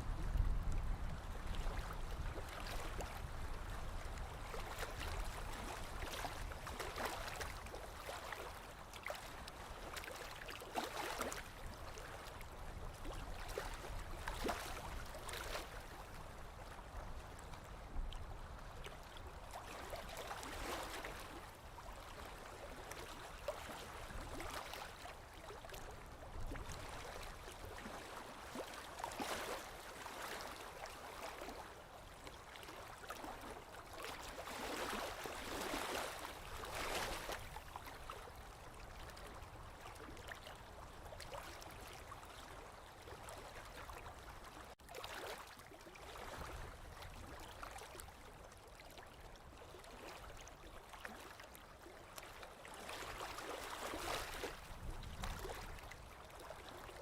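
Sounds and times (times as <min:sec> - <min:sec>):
lake waves lapping on shore: 0:00.0 - 0:57.0.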